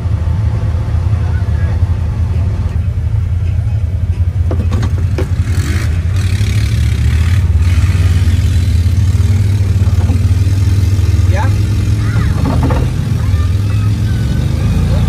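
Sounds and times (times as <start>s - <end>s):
off-road vehicle engine rumbling: 0.0s - 15.0s.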